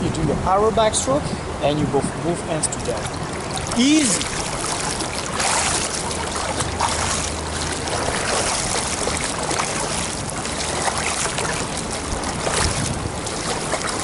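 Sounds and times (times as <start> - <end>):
swimmer splashing: 2.5 - 14.0.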